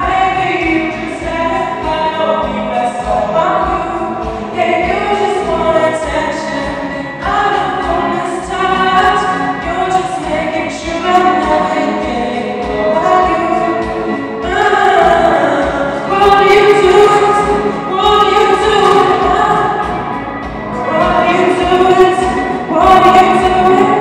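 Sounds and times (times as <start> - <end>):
backing music: 0.0 - 24.0.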